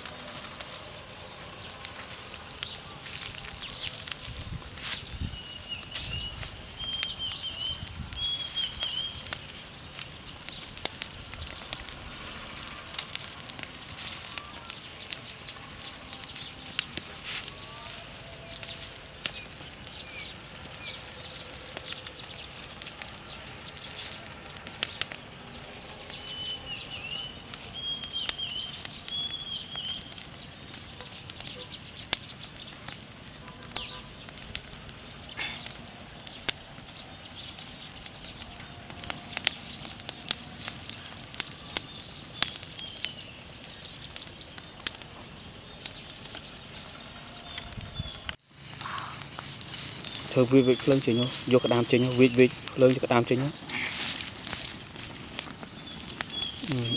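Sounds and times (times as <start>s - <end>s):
fire crackling and popping: 0.0s - 56.9s
bird chirping: 4.8s - 10.8s, 12.7s - 34.5s, 35.2s - 56.9s.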